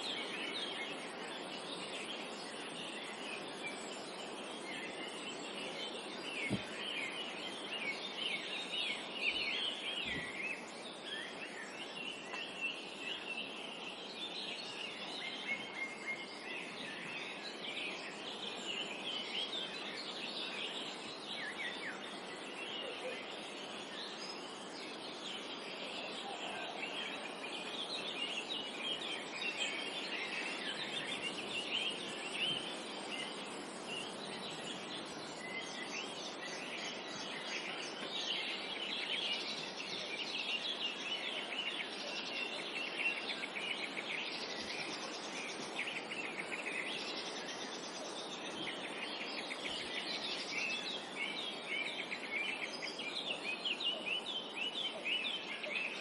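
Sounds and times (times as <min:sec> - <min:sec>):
forest ambience hiss: 0:00.0 - 0:56.0
songbirds chirping and twittering: 0:00.0 - 0:56.0.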